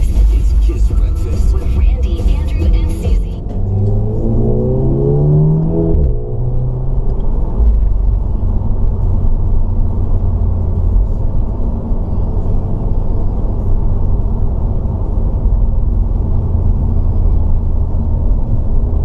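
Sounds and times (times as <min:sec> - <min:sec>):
car engine: 0:00.0 - 0:19.0
tyres on road: 0:00.0 - 0:19.0.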